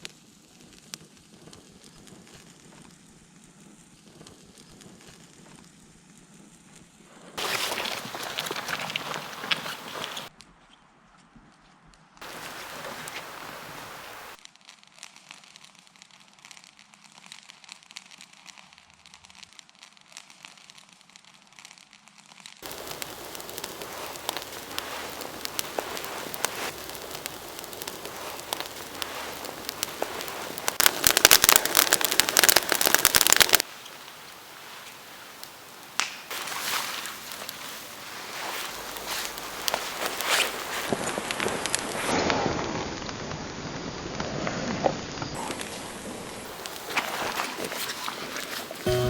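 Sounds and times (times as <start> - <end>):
bonfire crackling and popping: 0.0 - 10.3, 12.2 - 49.0.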